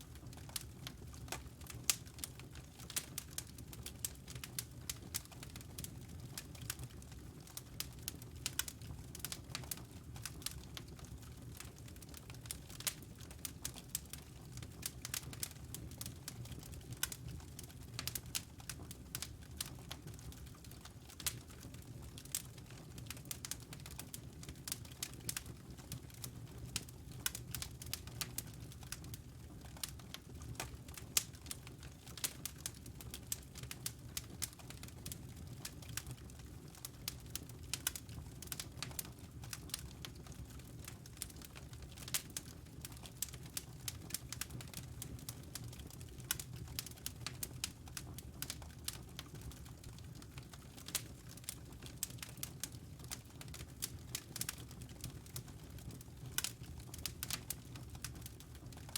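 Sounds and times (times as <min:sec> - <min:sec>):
low rumble of burning logs: 0:00.0 - 0:58.9
wood fire crackling: 0:00.0 - 0:58.9.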